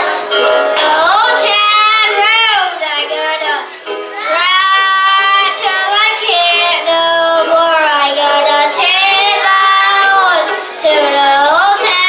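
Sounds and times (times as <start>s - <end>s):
boys singing together: 0.0s - 12.0s.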